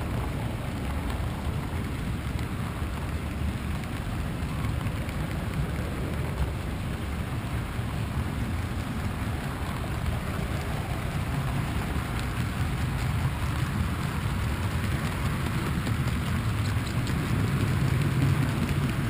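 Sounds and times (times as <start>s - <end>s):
model train wheels rolling on rails: 0.0s - 19.0s.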